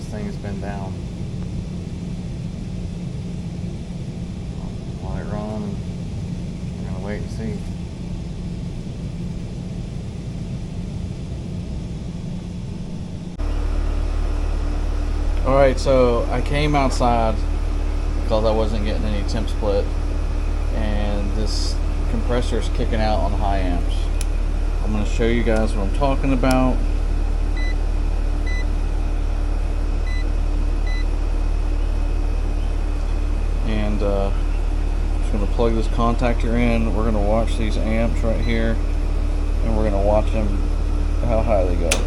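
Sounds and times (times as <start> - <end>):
air conditioner blower hum: 0.0 - 42.0
outdoor condensing unit hum: 0.0 - 42.0.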